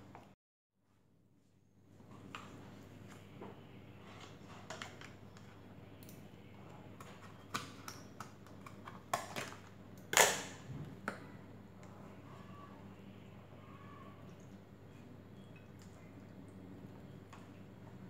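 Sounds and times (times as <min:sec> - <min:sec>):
faint low hum: 0:00.1 - 0:18.0.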